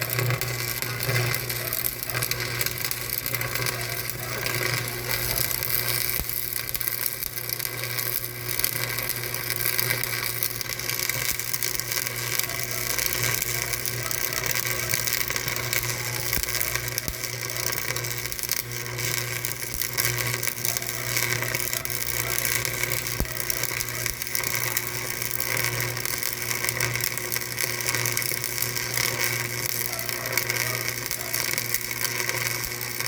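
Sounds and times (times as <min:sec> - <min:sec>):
machine humming and rattling: 0:00.0 - 0:33.0.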